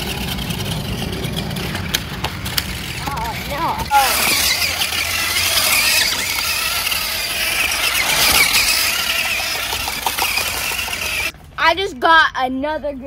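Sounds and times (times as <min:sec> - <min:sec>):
electric motors whining: 0:00.0 - 0:11.4.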